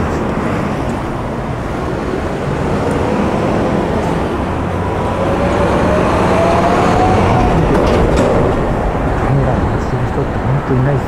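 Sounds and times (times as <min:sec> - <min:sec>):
large vehicle passing with motor whine: 0:00.0 - 0:10.7.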